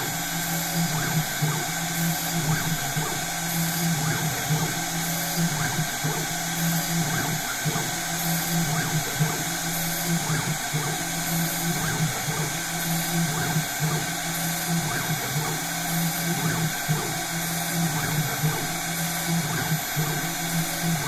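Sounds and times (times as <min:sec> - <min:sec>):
spindle motor running: 0:00.0 - 0:21.0.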